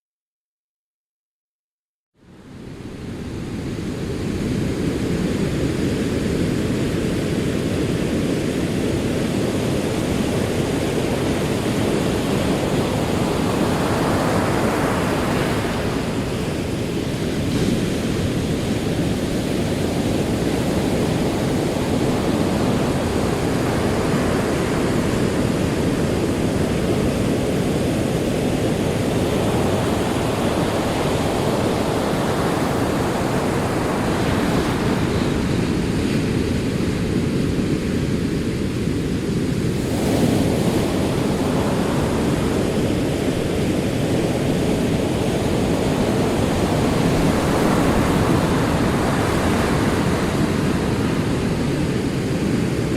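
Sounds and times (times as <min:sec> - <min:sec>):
ocean waves rolling: 0:02.2 - 0:52.9.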